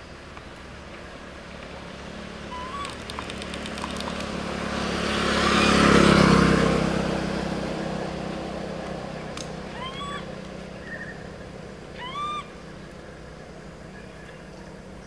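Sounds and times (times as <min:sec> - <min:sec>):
motor vehicle passing by: 0:01.1 - 0:15.0.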